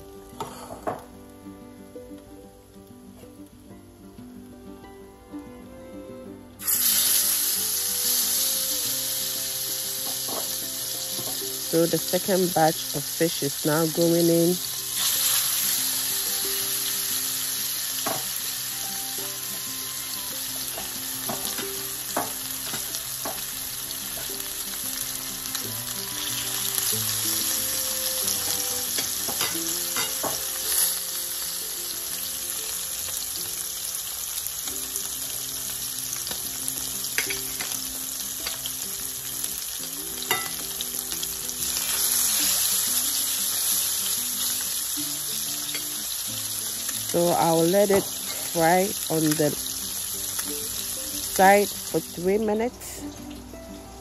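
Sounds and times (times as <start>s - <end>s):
fish sizzling in hot oil: 6.6s - 54.0s.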